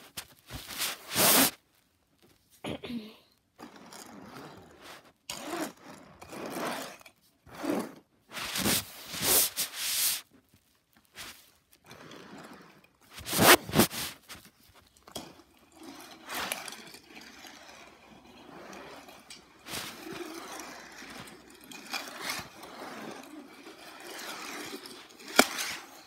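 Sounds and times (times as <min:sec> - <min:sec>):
toy cars scraping on fabric: 0:00.0 - 0:01.6, 0:03.6 - 0:10.4, 0:11.0 - 0:26.0.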